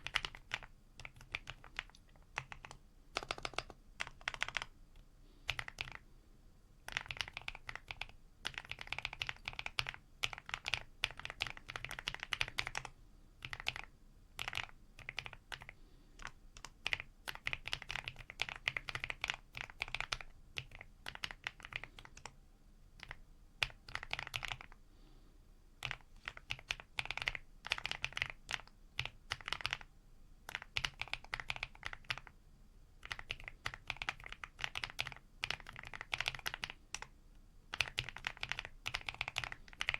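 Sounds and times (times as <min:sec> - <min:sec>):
typing on mechanical keyboard: 0:00.0 - 0:04.8, 0:05.4 - 0:06.0, 0:06.8 - 0:22.4, 0:23.0 - 0:24.8, 0:25.8 - 0:32.4, 0:33.0 - 0:37.1, 0:37.7 - 0:39.9.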